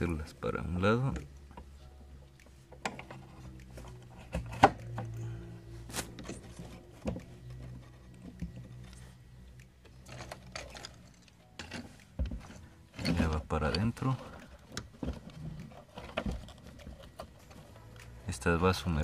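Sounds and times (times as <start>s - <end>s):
clicks and knocks of handling parts: 2.4s - 18.2s.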